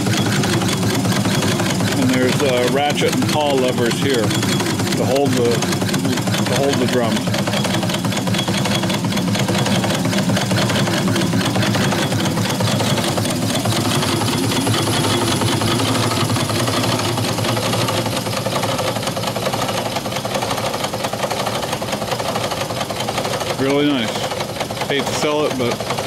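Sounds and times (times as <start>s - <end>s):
small steam engines running: 0.0s - 26.0s
steam exhaust: 0.0s - 26.0s.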